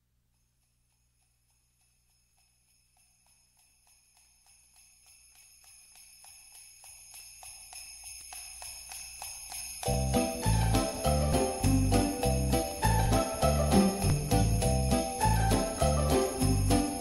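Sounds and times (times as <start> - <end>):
sleigh bells shaken: 0.3 - 17.0.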